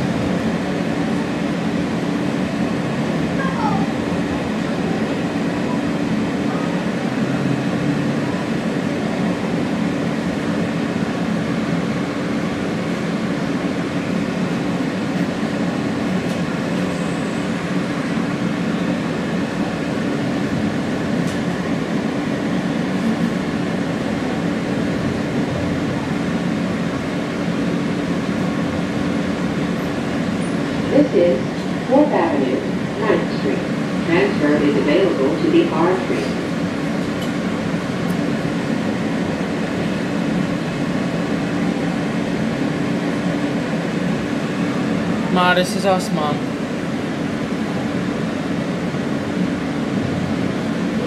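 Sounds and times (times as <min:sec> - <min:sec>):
subway car rumble and hum: 0:00.0 - 0:51.0.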